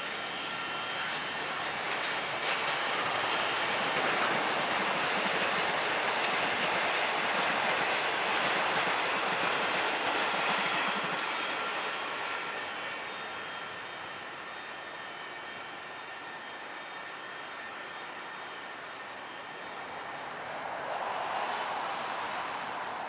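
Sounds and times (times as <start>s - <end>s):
train passing: 0.0s - 23.0s.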